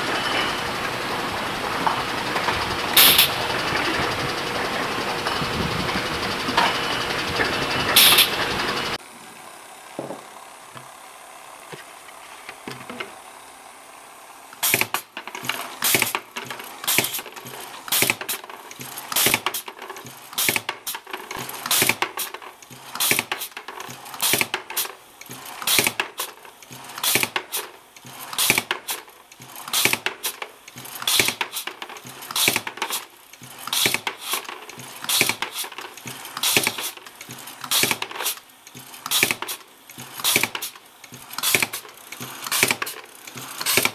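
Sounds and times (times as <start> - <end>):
corking machine clacking: 0.0 - 9.0, 14.6 - 43.9.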